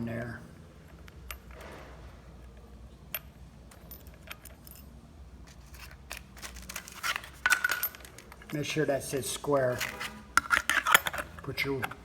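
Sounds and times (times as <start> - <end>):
metallic clicks and clinks: 0.8 - 1.8, 2.4 - 12.0.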